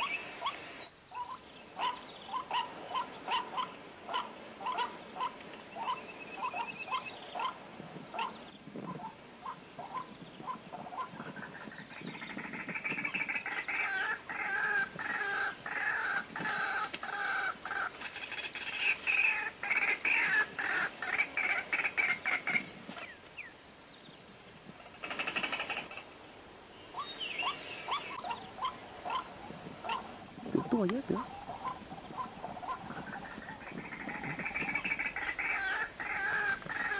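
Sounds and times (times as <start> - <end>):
waterhen calling: 0.0 - 23.2, 26.9 - 36.9.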